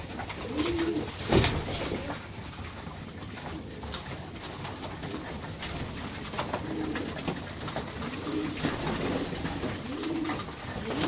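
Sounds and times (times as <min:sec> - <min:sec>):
pigeons cooing: 0:00.0 - 0:11.0
pigeons pecking feed: 0:00.0 - 0:11.0.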